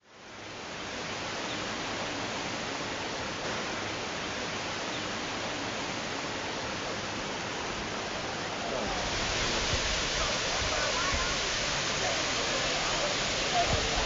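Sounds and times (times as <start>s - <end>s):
waterfall rushing: 0.2s - 14.0s.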